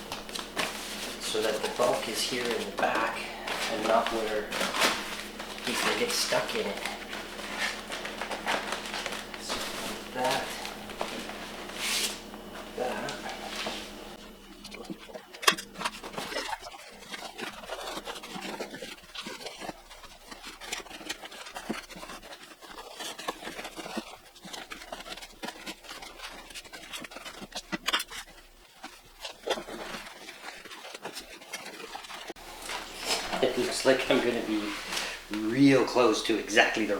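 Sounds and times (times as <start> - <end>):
plastic sheet rustling and scraping: 0.0 - 36.9.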